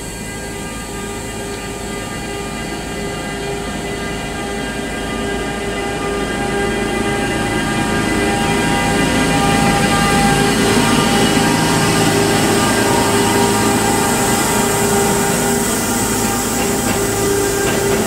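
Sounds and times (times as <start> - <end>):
electric locomotive whine: 0.0 - 18.0
train wheels rumbling: 0.0 - 18.0.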